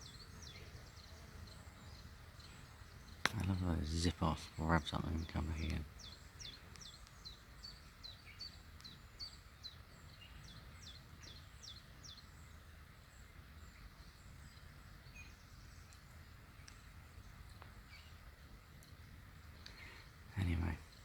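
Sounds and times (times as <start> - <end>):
songbird chirping: 0.0 - 21.0.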